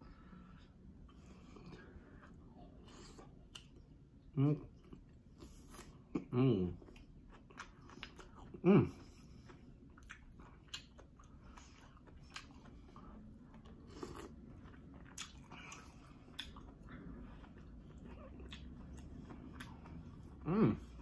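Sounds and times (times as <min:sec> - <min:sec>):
person chewing: 0:00.2 - 0:21.0.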